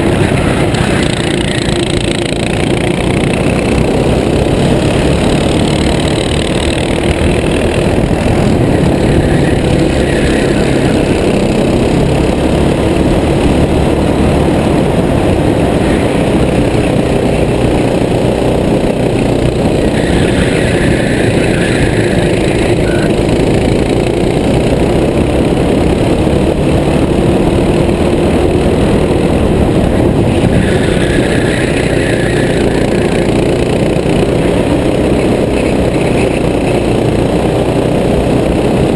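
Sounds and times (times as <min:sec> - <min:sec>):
kart engine running hard: 0:00.0 - 0:38.9
wind rushing over microphone: 0:00.0 - 0:38.9.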